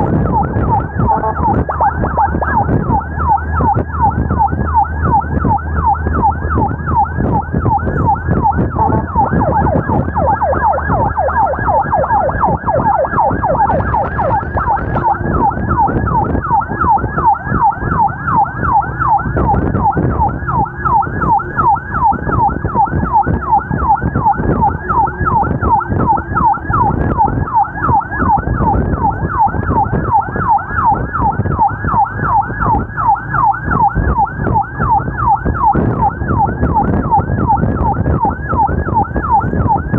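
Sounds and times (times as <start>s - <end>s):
ambulance siren yelping: 0.0s - 39.9s
vehicle and road noise: 0.0s - 39.9s.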